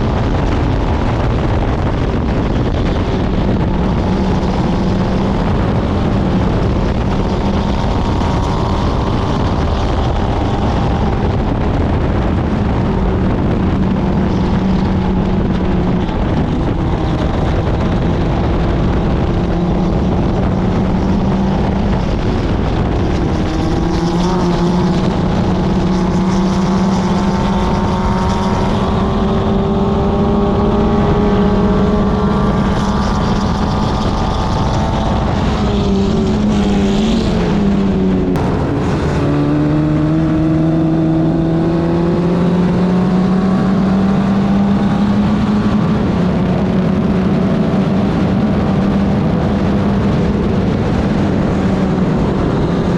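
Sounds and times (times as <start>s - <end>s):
race car engine running hard: 0.0s - 52.9s
wind buffeting microphone: 0.0s - 52.9s.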